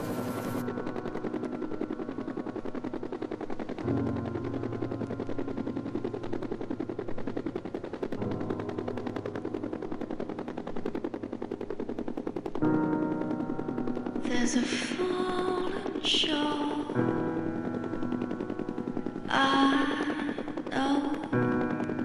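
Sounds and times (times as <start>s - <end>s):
helicopter engine drone: 0.0s - 22.0s
helicopter rotor blade slap: 0.0s - 22.0s.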